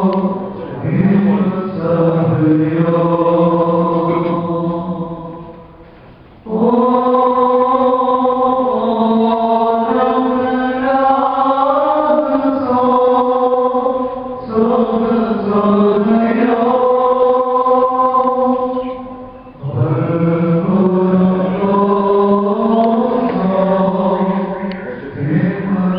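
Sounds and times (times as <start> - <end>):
men chanting a hymn in unison: 0.0 - 5.7, 6.4 - 25.9.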